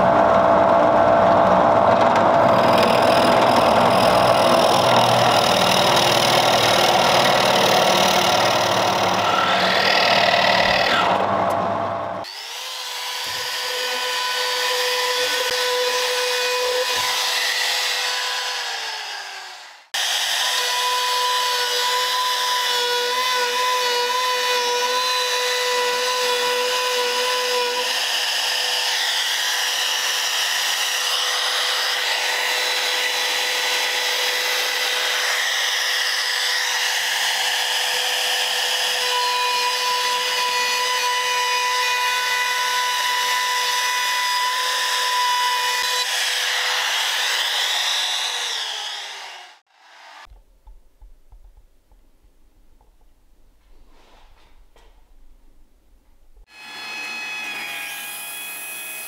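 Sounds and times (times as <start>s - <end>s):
wood router cutting wood: 0.0s - 11.6s, 12.2s - 50.3s, 56.5s - 59.0s.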